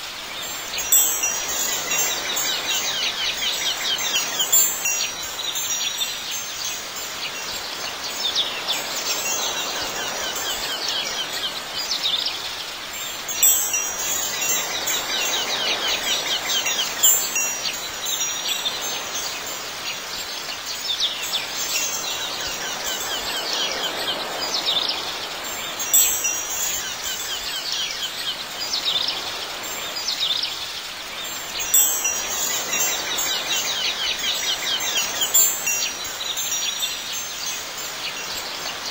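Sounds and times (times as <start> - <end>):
wind chimes tinkling: 0.0 - 38.9.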